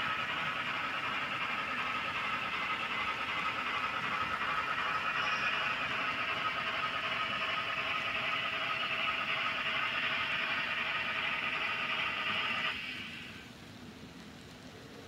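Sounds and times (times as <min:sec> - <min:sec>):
model train wheels rattling on rail: 0:00.0 - 0:13.5.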